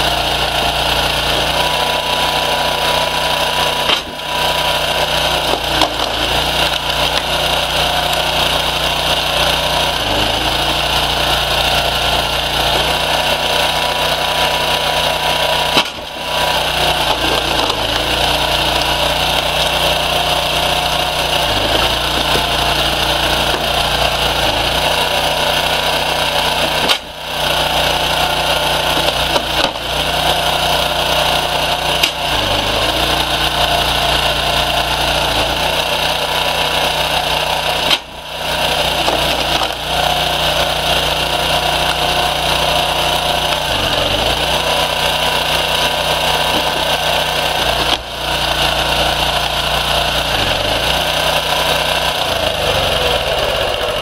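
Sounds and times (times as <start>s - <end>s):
firewood splitter motor droning: 0.0s - 54.0s
logs splitting: 0.0s - 54.0s.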